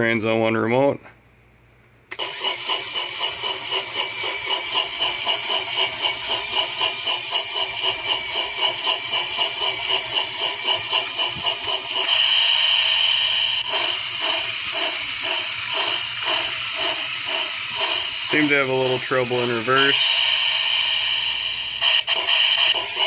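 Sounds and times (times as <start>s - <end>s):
toy steam engine chuffing: 2.1s - 23.0s.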